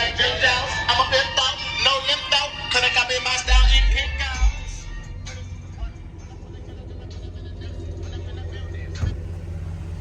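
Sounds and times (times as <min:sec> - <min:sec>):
music with singing: 0:00.0 - 0:09.4.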